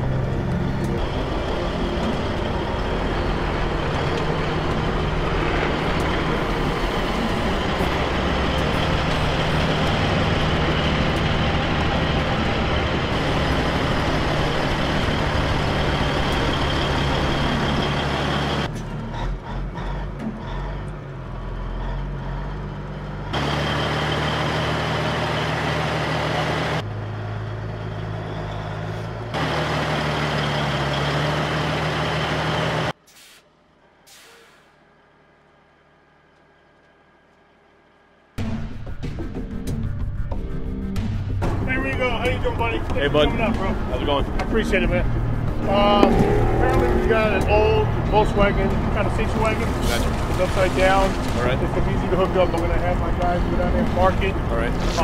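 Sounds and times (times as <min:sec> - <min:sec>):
diesel engine idling: 0:00.0 - 0:33.0, 0:42.1 - 0:55.0.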